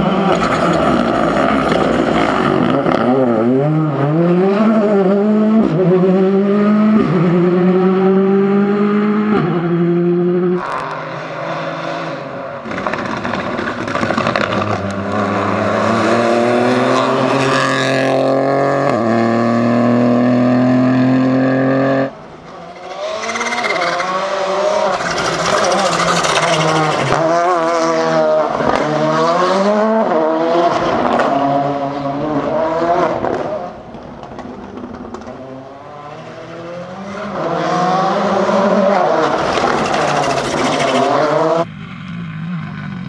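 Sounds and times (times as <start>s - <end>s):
car engine revving: 0.0s - 33.8s, 35.0s - 41.7s
rally car engine at full throttle: 0.0s - 43.0s.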